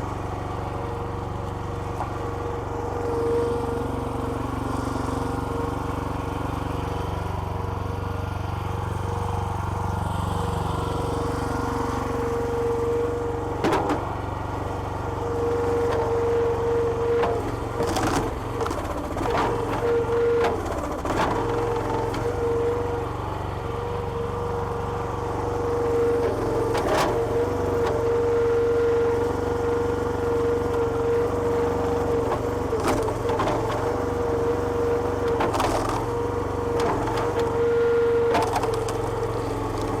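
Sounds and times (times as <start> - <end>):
small petrol engine running: 0.0 - 40.0.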